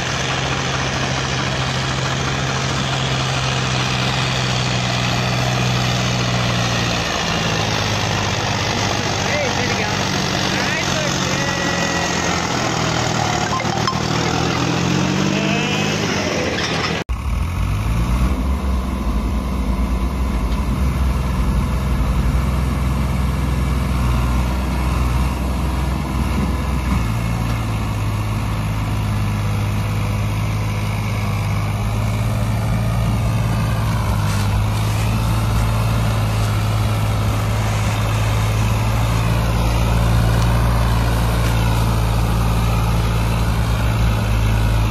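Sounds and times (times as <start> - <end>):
diesel tractor engine running: 0.0 - 44.9.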